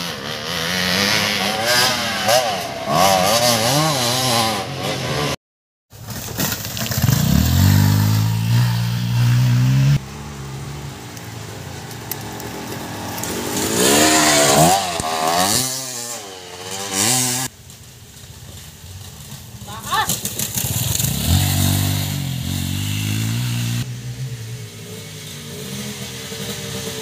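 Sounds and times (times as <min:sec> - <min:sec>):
dirt bike engines revving: 0:00.0 - 0:05.4, 0:06.8 - 0:17.6, 0:18.5 - 0:27.0.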